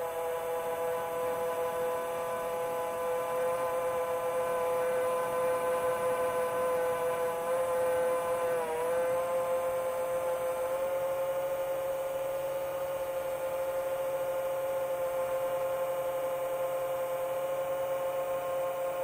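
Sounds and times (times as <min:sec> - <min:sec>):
quadcopter propellers humming: 0:00.0 - 0:19.0.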